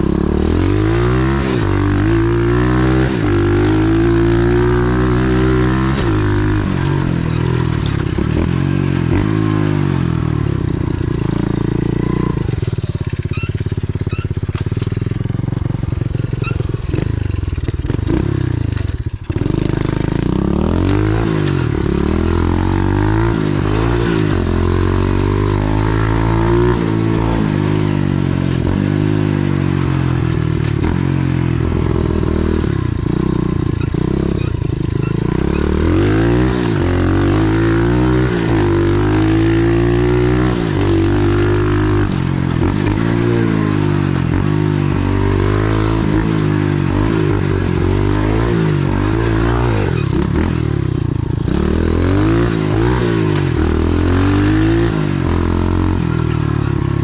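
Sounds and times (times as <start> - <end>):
pit bike engine under load: 0.0 - 57.0.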